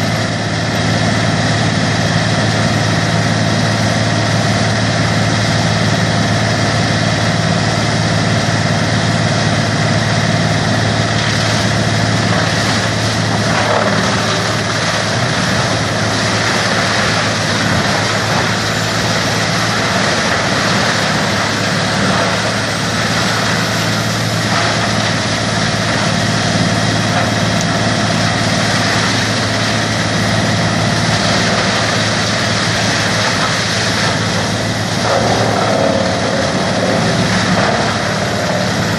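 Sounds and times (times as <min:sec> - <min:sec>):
grinder machine running: 0:00.0 - 0:38.9.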